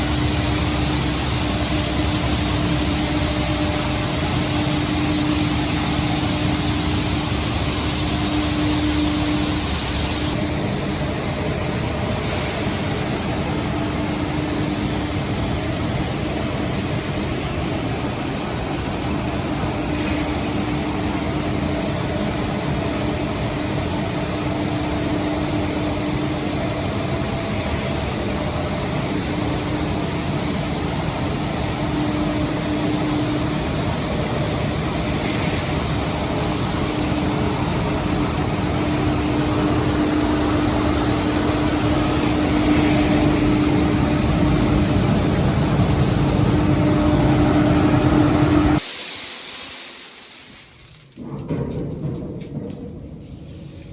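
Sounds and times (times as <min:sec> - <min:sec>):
dryer machine humming: 0:00.0 - 0:48.9.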